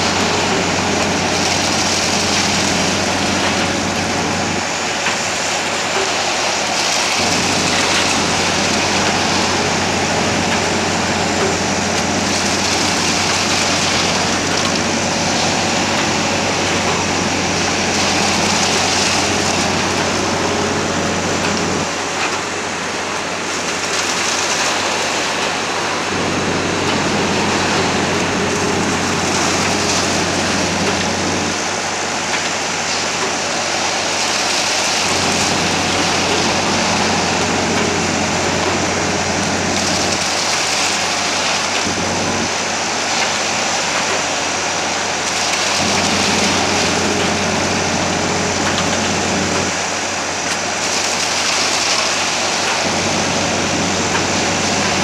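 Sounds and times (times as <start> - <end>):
concrete pump hissing: 0.0 - 55.0
engine running: 0.0 - 55.0.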